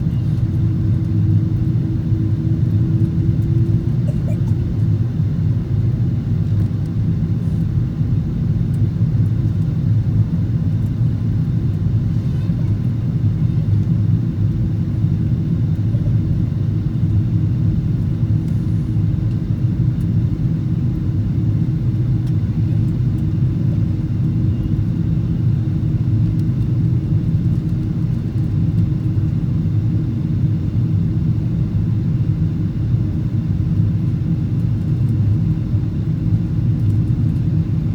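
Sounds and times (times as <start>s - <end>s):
jet engine and airflow rumble: 0.0s - 37.9s.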